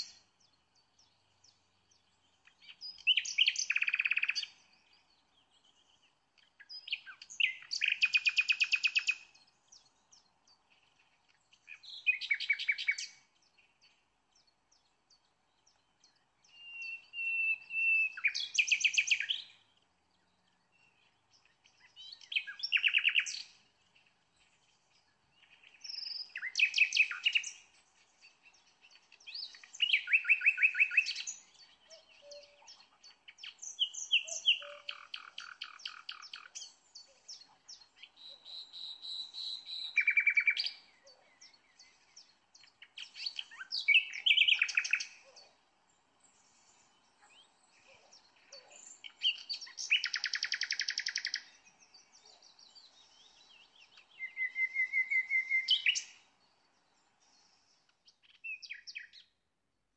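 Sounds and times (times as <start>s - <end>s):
songbird chirps and trills: 0.0s - 59.9s.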